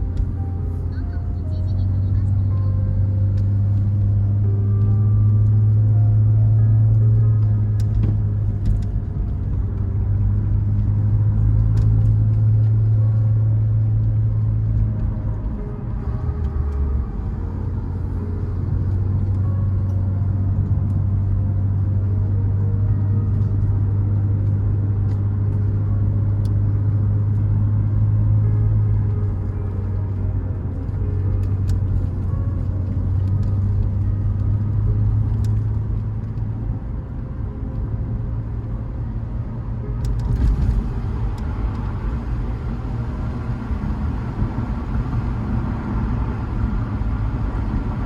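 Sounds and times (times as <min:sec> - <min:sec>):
vehicle engine and road drone: 0:00.0 - 0:48.0.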